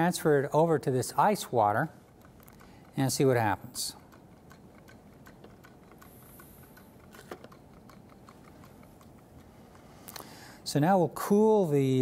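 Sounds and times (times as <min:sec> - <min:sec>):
stirling engine ticking: 0:00.0 - 0:09.9.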